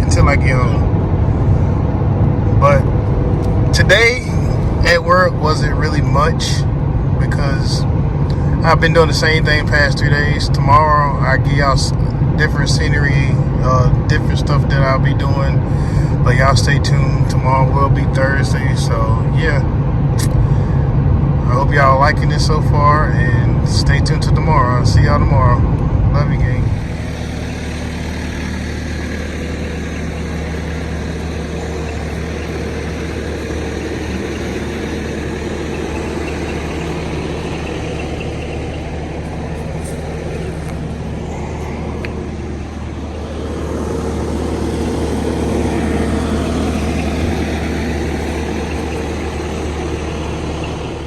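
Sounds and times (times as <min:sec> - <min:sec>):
road noise: 0:00.0 - 0:51.0
vehicle engine hum from inside: 0:00.0 - 0:51.0.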